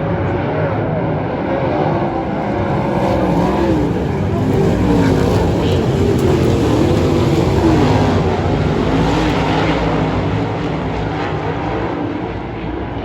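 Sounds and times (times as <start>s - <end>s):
sprint car engines racing: 0.0s - 13.0s.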